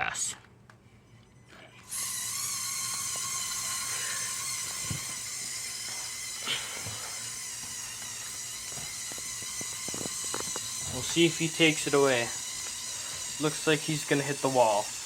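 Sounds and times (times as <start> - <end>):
toy electric motor whining: 0.9 - 15.0.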